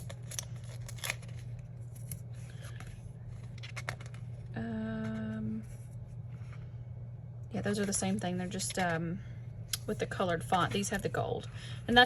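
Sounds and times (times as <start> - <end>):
steady low hum: 0.0 - 12.0
steady-pitched hum: 0.0 - 12.0.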